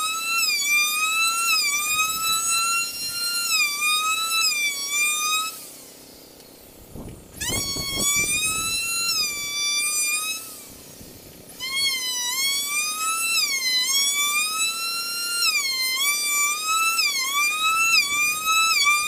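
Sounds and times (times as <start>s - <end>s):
router cutting wood whine: 0.0s - 19.0s.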